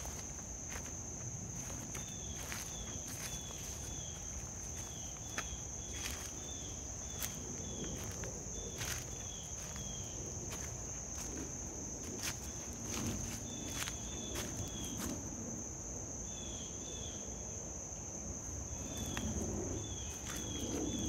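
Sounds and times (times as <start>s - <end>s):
footsteps crunching through leaves: 0.0s - 15.3s, 18.8s - 21.0s
insect chorus: 0.0s - 21.0s.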